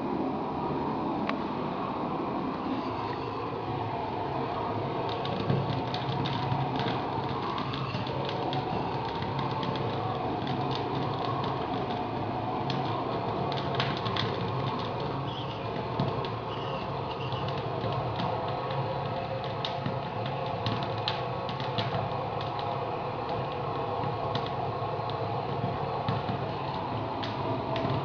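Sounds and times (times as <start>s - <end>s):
gas burner flame rushing: 0.0s - 28.0s
burning wood crackling: 2.9s - 28.0s.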